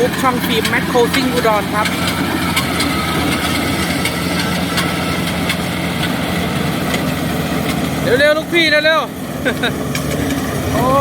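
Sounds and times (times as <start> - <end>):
diesel engine hum: 0.0 - 11.0
high machinery whine: 0.0 - 11.0.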